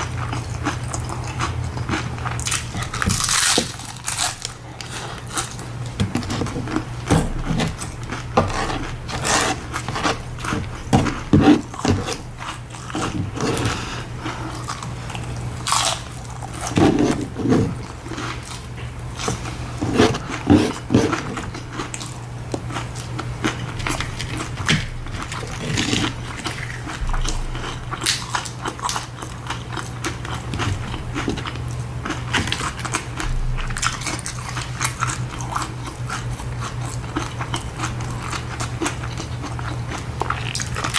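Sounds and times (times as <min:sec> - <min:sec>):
crunching and wet chewing: 0:00.0 - 0:40.9
steady low hum: 0:00.0 - 0:40.9.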